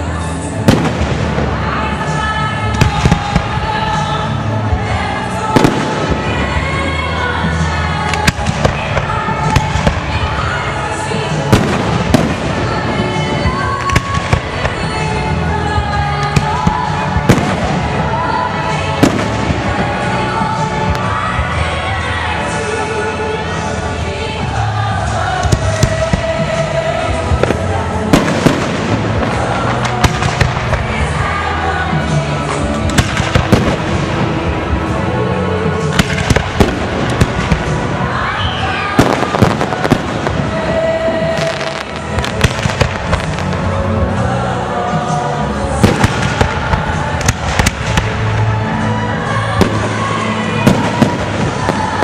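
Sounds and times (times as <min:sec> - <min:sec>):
music playing: 0:00.0 - 0:52.0
fireworks bangs: 0:00.6 - 0:21.5, 0:25.3 - 0:31.2, 0:32.4 - 0:35.0, 0:35.8 - 0:43.7, 0:45.7 - 0:48.5, 0:49.5 - 0:52.0.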